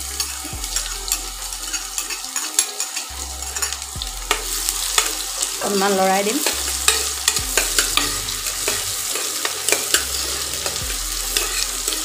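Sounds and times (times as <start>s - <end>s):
metal spoon scraping a pan: 0.0s - 12.0s
onion sizzling in oil: 0.0s - 12.0s.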